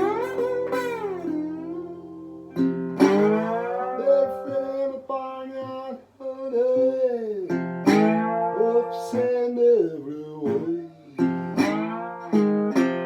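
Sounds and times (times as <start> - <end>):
acoustic guitar playing blues: 0.0 - 13.0.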